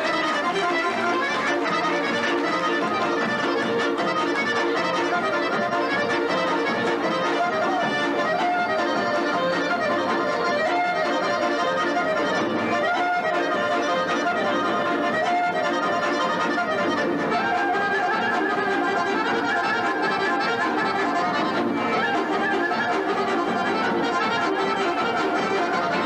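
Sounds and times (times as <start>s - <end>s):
folk dance music with accordion: 0.0s - 26.0s.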